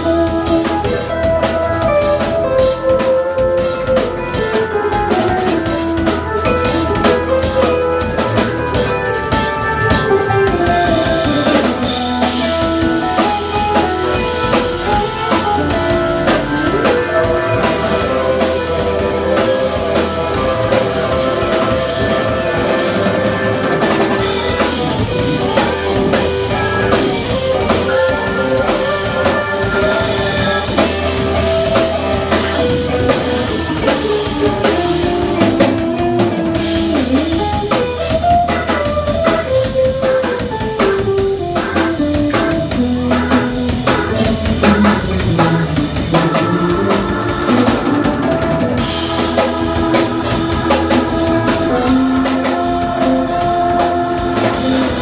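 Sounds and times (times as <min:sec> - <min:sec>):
drum kit: 0:00.0 - 0:55.0
electric guitar: 0:00.0 - 0:55.0
organ: 0:00.0 - 0:55.0
saxophone: 0:00.0 - 0:55.0.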